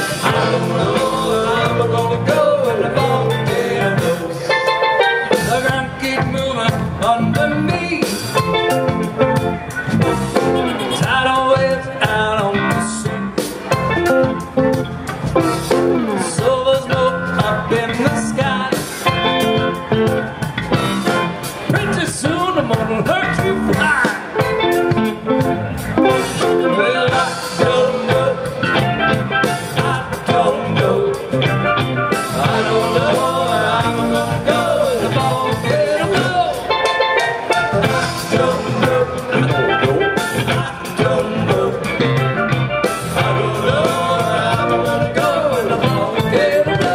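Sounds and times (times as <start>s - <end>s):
man singing: 0.0s - 14.4s, 15.4s - 20.1s, 21.5s - 25.4s, 26.0s - 46.9s
drums: 0.0s - 46.9s
electric guitar: 0.0s - 46.9s.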